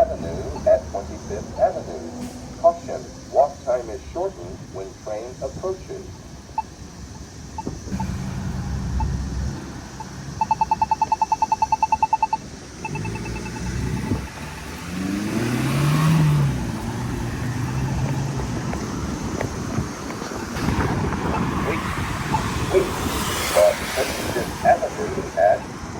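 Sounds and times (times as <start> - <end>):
pedestrian button rapid beeping: 0.0 - 2.0, 2.6 - 8.3, 8.9 - 14.2, 16.6 - 25.8
vehicle passing: 0.0 - 6.6, 7.8 - 11.2, 12.7 - 25.9
steady traffic noise: 0.0 - 25.9.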